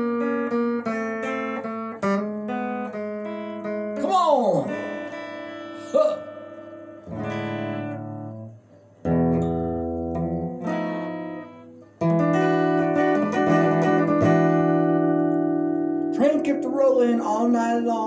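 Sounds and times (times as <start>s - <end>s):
electric guitar chords ringing: 0.0s - 18.0s.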